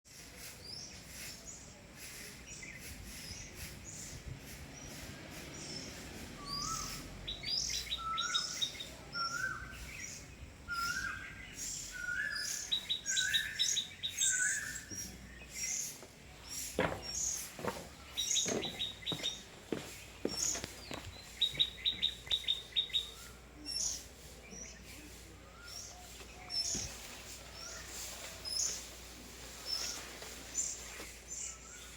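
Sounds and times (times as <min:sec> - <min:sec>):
birds chirping: 0:00.1 - 0:31.9.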